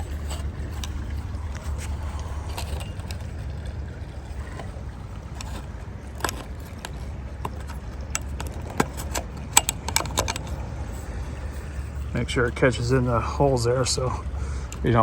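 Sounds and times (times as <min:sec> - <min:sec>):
plastic clicks and clacks: 0:00.0 - 0:13.1.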